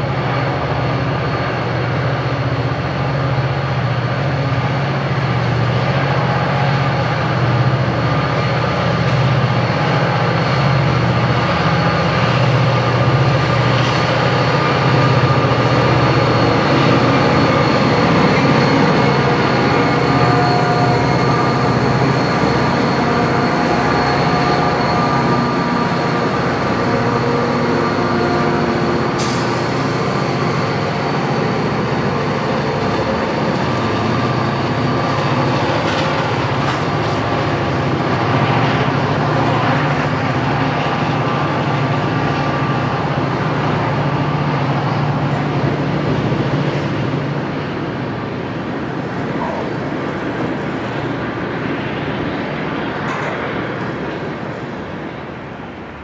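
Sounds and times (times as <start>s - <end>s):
diesel locomotives rumbling: 0.0s - 56.0s
high whine: 3.4s - 52.6s.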